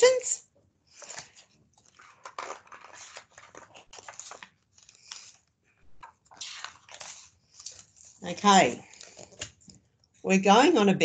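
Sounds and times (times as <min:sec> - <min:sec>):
book pages rustling: 0:00.9 - 0:09.9.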